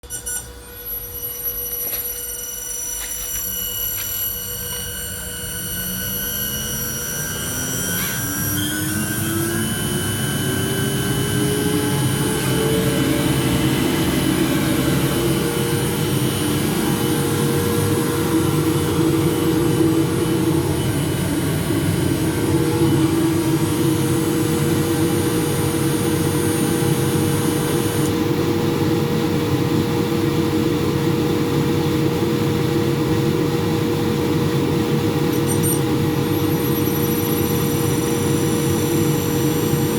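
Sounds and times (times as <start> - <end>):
electric motor whine: 0.1 - 39.9.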